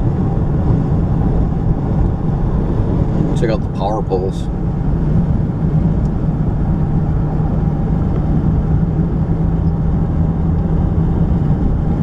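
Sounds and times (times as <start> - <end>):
car engine drone: 0.0 - 12.0
road and tyre noise: 0.0 - 12.0.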